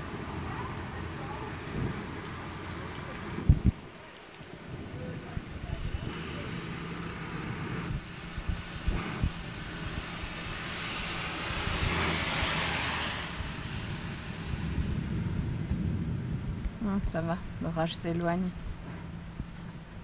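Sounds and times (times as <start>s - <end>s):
heavy rain falling: 0.0s - 20.0s
tyres hissing on wet road: 0.0s - 20.0s.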